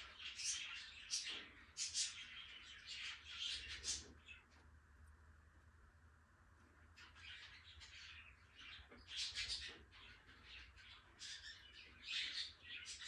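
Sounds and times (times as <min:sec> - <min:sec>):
birds chirping and squawking: 0:00.0 - 0:04.6, 0:06.7 - 0:13.0.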